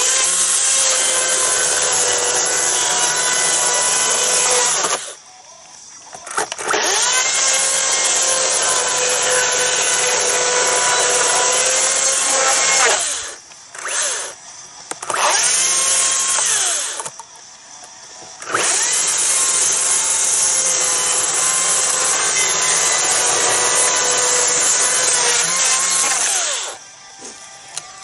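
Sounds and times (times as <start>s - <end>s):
chainsaw cutting log: 0.0s - 5.2s, 6.3s - 14.4s, 15.0s - 17.2s, 18.4s - 26.8s
electric chainsaw revving: 0.0s - 5.2s, 6.3s - 14.4s, 15.0s - 17.1s, 18.4s - 26.8s.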